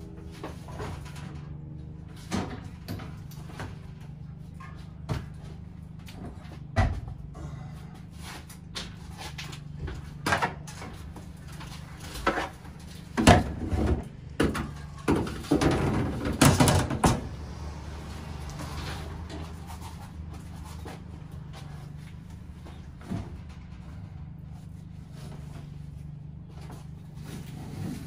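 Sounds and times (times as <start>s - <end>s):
gear knocking and clunking: 0.0s - 28.0s
steady low hum: 0.0s - 28.0s.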